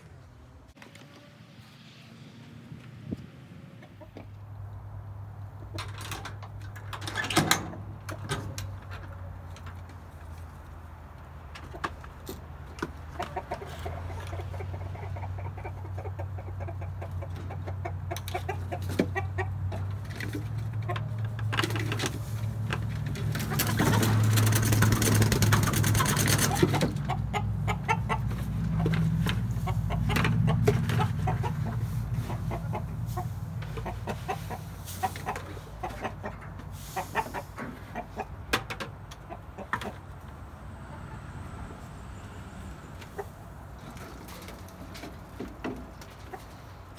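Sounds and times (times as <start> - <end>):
chickens clucking: 3.0 - 7.1, 7.7 - 46.9.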